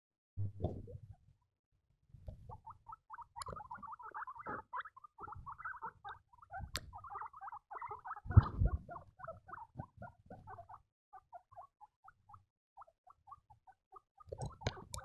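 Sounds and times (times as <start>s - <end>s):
guinea pigs squeaking: 2.3s - 15.0s.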